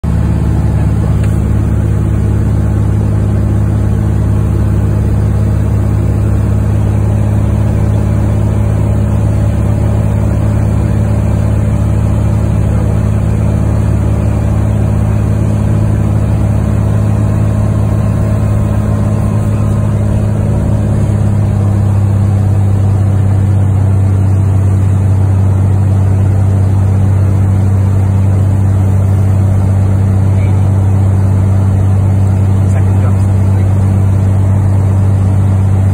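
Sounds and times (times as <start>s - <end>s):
airplane engine and propeller hum: 0.0s - 35.9s.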